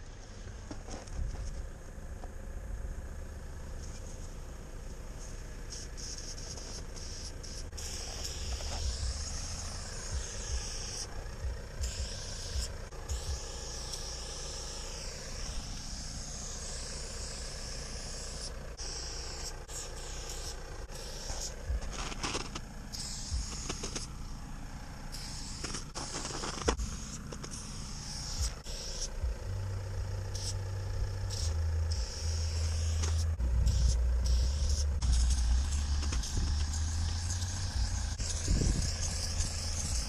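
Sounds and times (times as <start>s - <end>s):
spray paint can hissing: 5.6s - 24.4s, 25.1s - 29.4s, 30.2s - 40.0s
low rumble: 6.6s - 18.9s, 19.6s - 40.0s.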